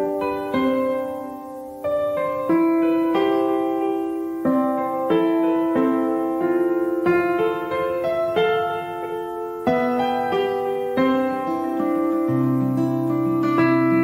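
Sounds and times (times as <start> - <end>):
gentle piano piece: 0.0 - 14.0.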